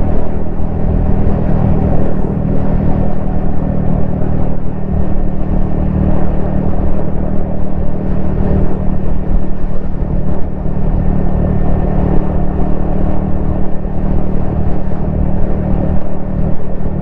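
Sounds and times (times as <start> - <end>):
motorcycle engine running: 0.0 - 17.0
road noise: 0.0 - 17.0
wind noise: 0.0 - 17.0.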